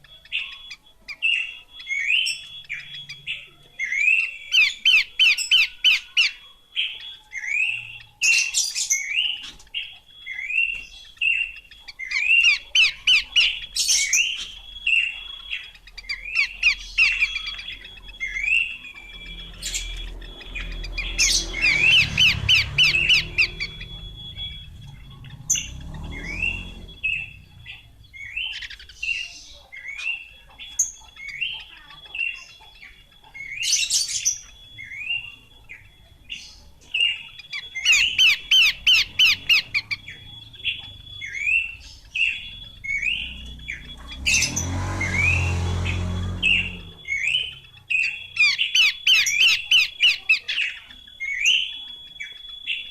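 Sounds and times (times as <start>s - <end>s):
bird calling sharp notes: 0.0s - 52.9s
thin steady high tone: 0.0s - 52.9s.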